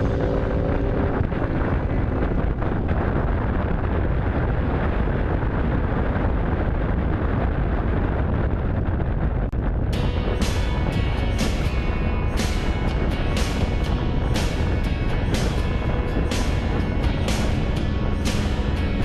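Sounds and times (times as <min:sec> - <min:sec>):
motorcycle running: 0:00.0 - 0:19.0
wind rushing on microphone: 0:00.0 - 0:19.0.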